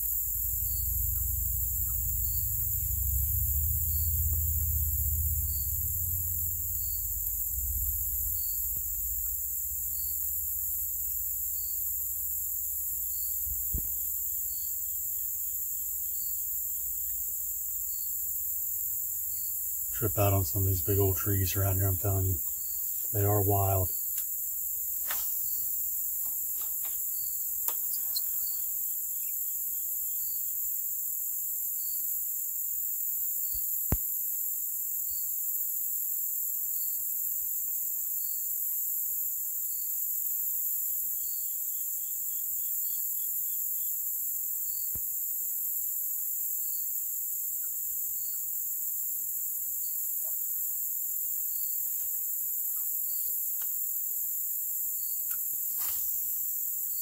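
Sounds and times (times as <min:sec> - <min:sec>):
crickets and insects chorus: 0:00.0 - 0:57.0
repeating insect chirp: 0:00.0 - 0:57.0.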